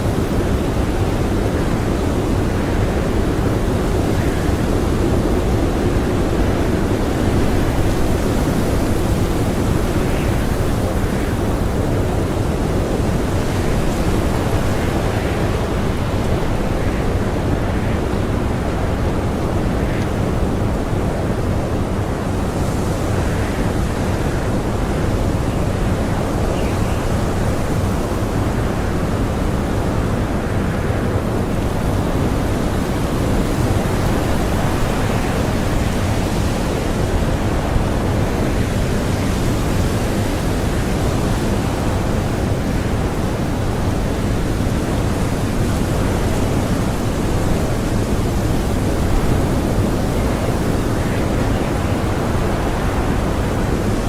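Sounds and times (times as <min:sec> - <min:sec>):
strong blizzard wind: 0:00.0 - 0:54.0.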